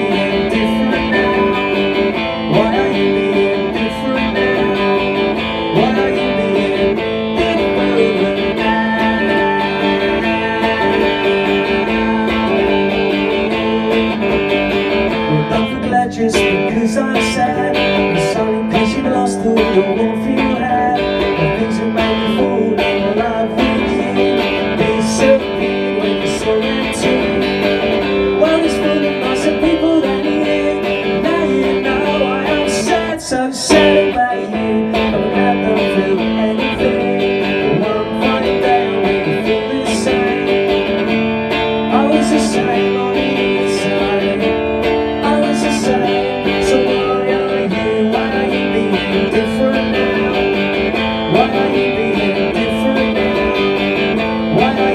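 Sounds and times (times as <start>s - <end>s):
electric guitar strumming chords: 0.0s - 54.9s.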